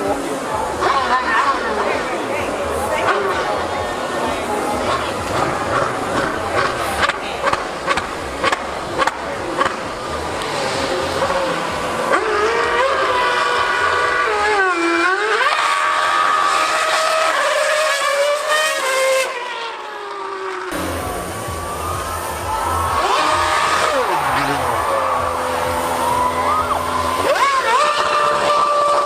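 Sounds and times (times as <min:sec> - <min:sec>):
racing car engine screaming: 0:00.0 - 0:29.0.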